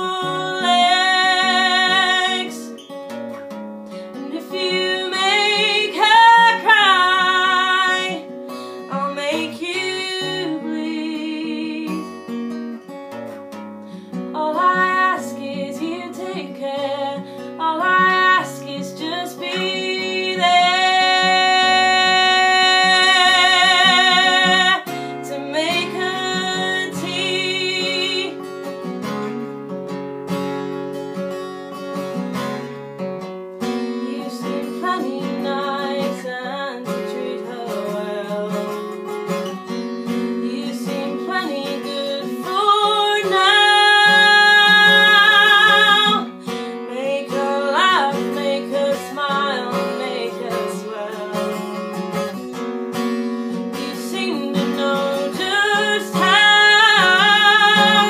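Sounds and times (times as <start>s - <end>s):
woman singing: 0.0s - 3.0s, 4.0s - 12.8s, 14.1s - 28.7s, 33.6s - 52.5s, 53.3s - 58.0s
strummed acoustic guitar: 0.0s - 58.0s.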